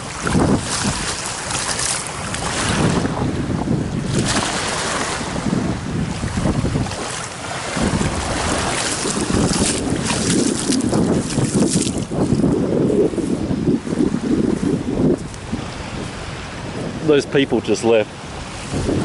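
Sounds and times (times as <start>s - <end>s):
sea water lapping: 0.0s - 19.0s
wind buffeting microphone: 0.0s - 19.0s.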